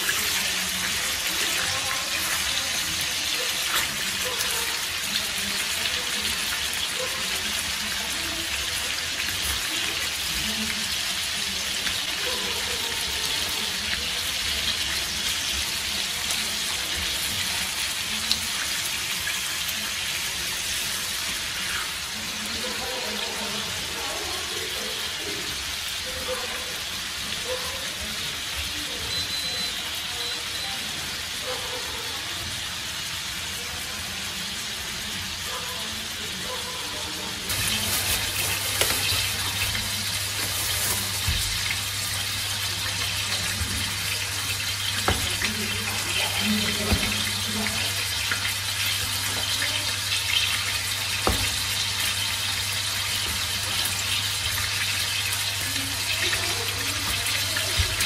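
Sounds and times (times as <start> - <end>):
fish sizzling in a frying pan: 0.0 - 58.0.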